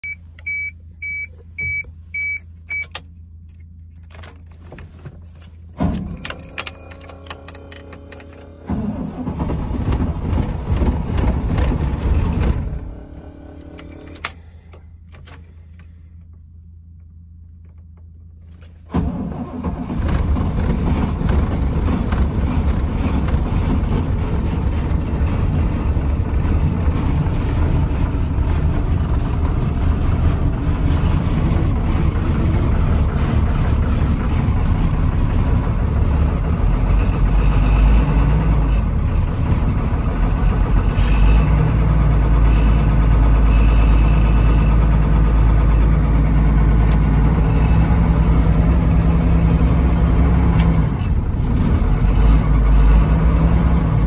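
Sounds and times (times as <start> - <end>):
diesel engine cranking: 0.0 - 54.0
diesel engine running: 0.0 - 54.0.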